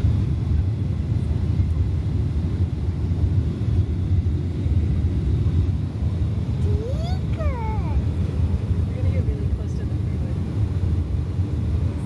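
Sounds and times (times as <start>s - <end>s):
airliner engines and airflow rumble: 0.0s - 12.0s.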